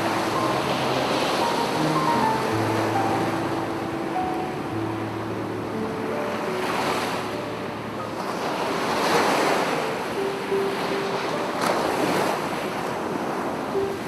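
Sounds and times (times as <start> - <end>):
sea waves breaking on beach: 0.0 - 14.0
soft piano notes: 0.0 - 14.0.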